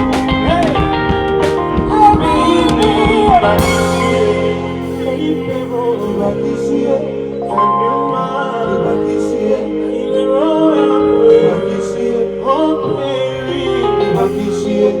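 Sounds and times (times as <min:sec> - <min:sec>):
sustained instrumental chords: 0:00.0 - 0:15.0.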